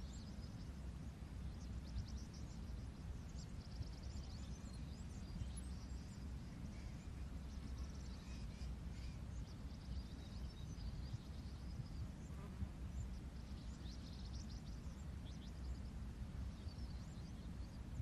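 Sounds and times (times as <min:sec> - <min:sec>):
low background rumble: 0:00.0 - 0:18.0
small birds chirping: 0:00.0 - 0:18.0.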